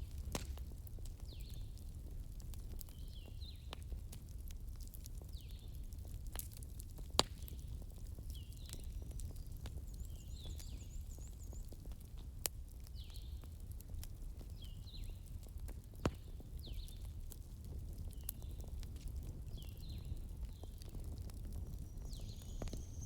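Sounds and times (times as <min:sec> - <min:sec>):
burning wood crackling: 0:00.0 - 0:23.0.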